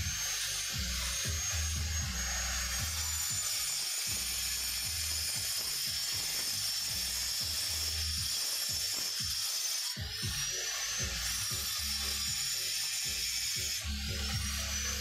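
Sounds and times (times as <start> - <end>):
angle grinder on stone: 0.0 - 15.0.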